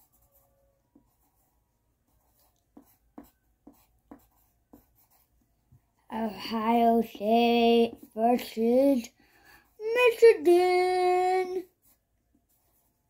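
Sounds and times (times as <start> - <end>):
pencil scratching on paper: 0.0 - 5.4, 7.0 - 13.0.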